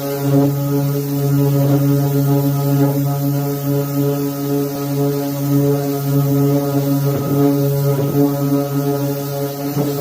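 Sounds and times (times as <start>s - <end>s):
electric sander buzzing: 0.0s - 10.0s.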